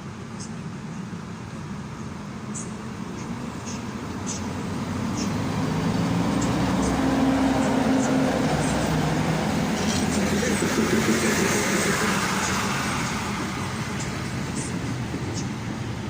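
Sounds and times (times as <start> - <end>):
train running: 0.0 - 16.0.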